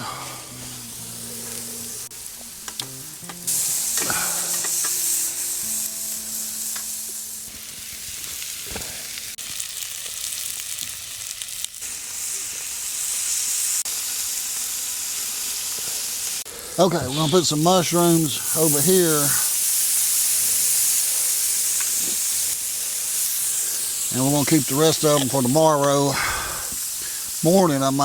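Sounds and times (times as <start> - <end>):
patties and onions sizzling: 0.0 - 28.0.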